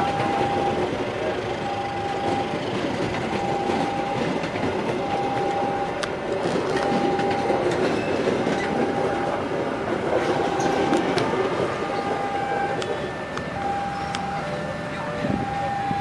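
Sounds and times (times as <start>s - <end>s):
level crossing alarm tone: 0.0s - 16.0s
train wheels clattering on rails: 0.0s - 16.0s.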